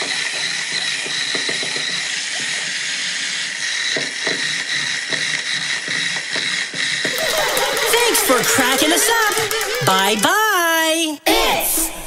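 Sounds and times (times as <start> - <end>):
clockwork spring motor whirring: 0.0 - 10.5
toy clicking and knocking: 0.0 - 10.5.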